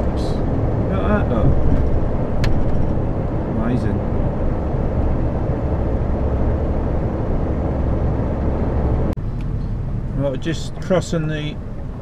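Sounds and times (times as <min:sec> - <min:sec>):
truck engine and tyre drone: 0:00.0 - 0:12.0.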